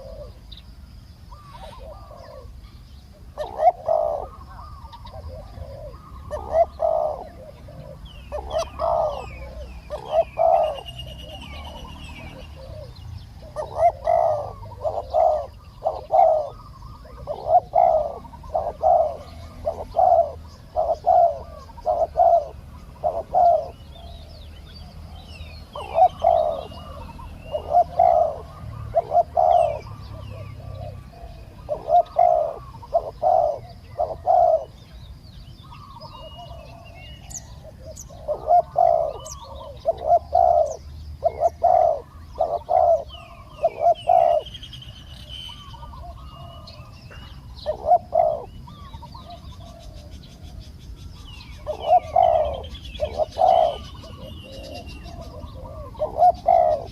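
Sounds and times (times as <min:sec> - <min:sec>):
dove cooing: 0:00.0 - 0:00.6, 0:01.3 - 0:56.9
small birds chirping: 0:00.0 - 0:56.9.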